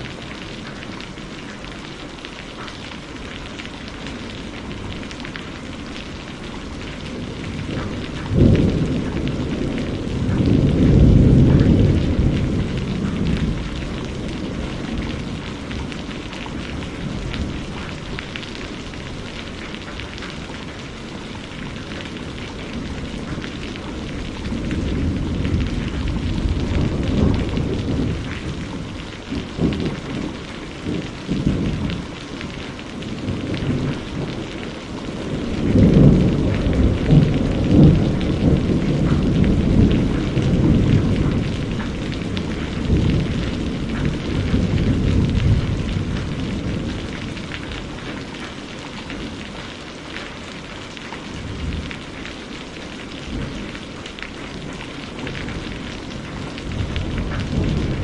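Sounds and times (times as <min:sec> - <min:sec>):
steady rain: 0:00.0 - 0:58.0
low rolling thunder: 0:04.0 - 0:50.0, 0:51.2 - 0:58.0.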